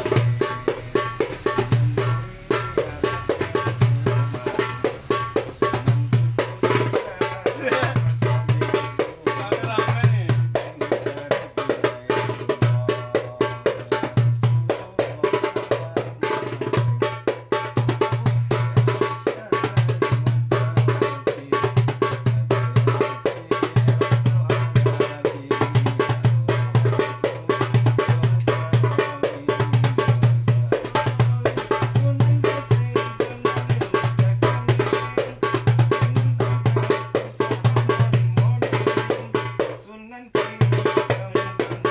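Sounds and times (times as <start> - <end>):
darbuka drum rhythm: 0.0 - 41.9.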